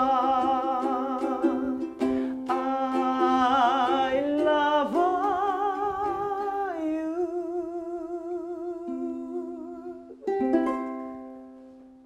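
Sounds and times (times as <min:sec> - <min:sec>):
man singing with vibrato: 0:00.0 - 0:10.4
ukulele strums: 0:00.0 - 0:12.0.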